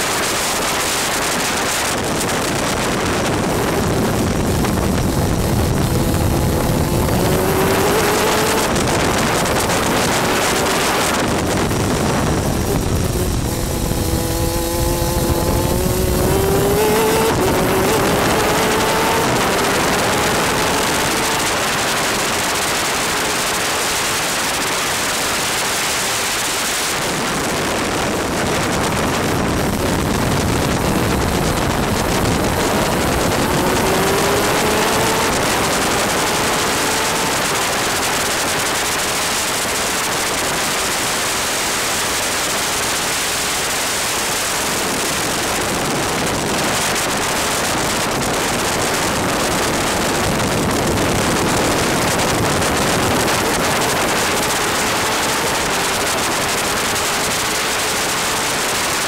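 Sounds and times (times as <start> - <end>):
two-stroke kart engine: 0.0 - 59.0
wind and rain rushing over microphone: 0.0 - 59.0.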